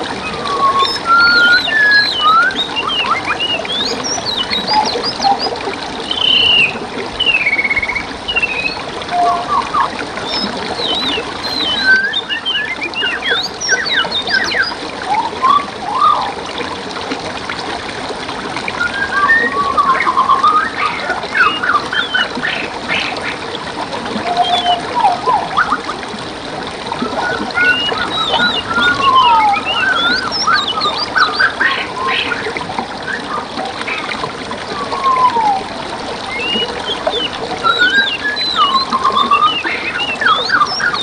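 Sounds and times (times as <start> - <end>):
songbirds singing: 0.0 - 16.4, 18.7 - 26.0, 26.9 - 35.6, 36.2 - 41.0
stream water trickling: 0.0 - 41.0.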